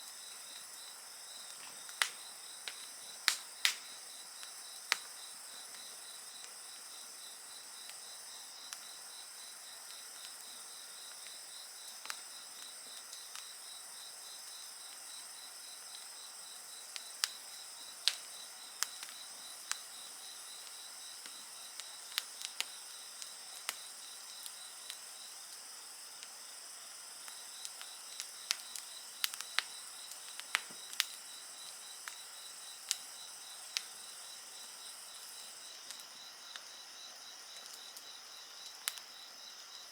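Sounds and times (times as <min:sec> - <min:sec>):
crickets and insects trilling: 0:00.0 - 0:39.9
wood fire crackling and popping: 0:00.1 - 0:13.7, 0:14.3 - 0:36.7, 0:37.5 - 0:39.1.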